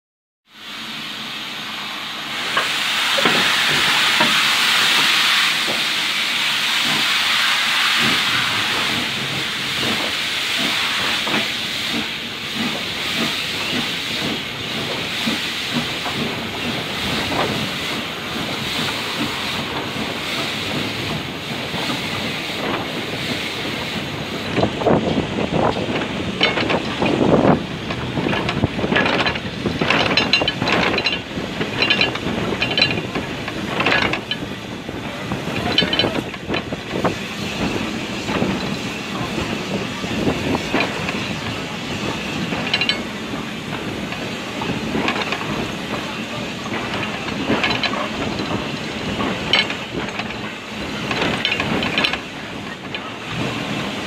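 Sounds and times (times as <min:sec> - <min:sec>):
train wheels running on track: 0:00.5 - 0:54.0
clattering and clanking: 0:08.0 - 0:54.0.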